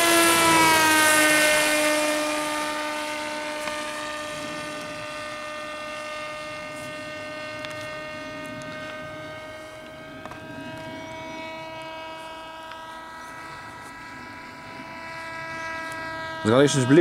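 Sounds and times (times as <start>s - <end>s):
model aircraft motor whine: 0.0s - 17.0s.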